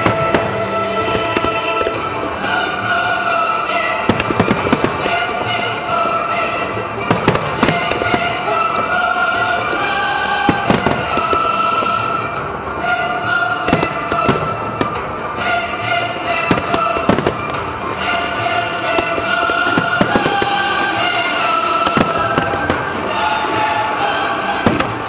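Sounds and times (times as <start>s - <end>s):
fireworks bursting with sharp bangs: 0.0s - 25.0s
music with long held notes: 0.0s - 25.0s.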